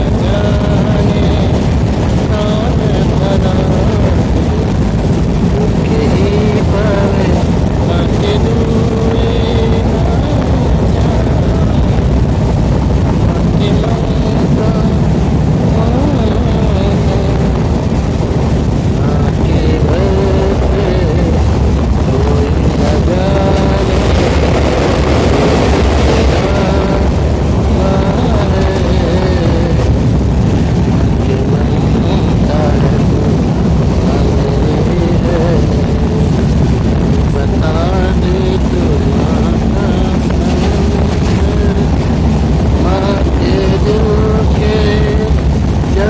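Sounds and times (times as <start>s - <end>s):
people talking: 0.0s - 12.4s, 13.1s - 46.0s
background voices: 0.0s - 46.0s
engine rumble heard on board: 0.0s - 46.0s.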